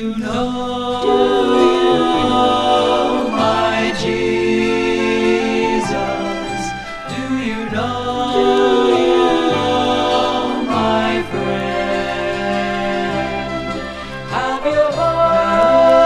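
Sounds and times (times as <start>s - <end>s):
wordless choir voices: 0.0s - 16.0s
orchestral strings holding chords: 0.9s - 16.0s.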